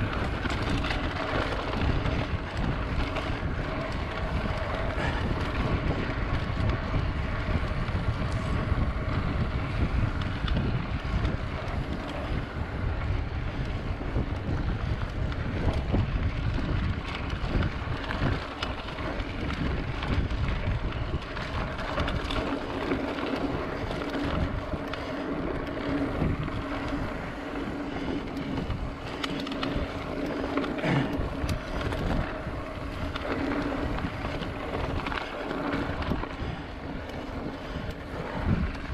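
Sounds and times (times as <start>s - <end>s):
bike knocks and rattles: 0.0s - 38.9s
bike tyre noise on dirt: 0.0s - 38.9s
wind buffeting microphone: 0.0s - 38.9s.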